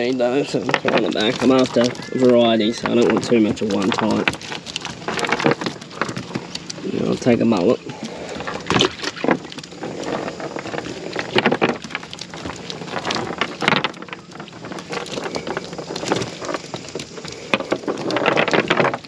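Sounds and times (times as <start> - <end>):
fish flapping and splashing: 0.0 - 19.0.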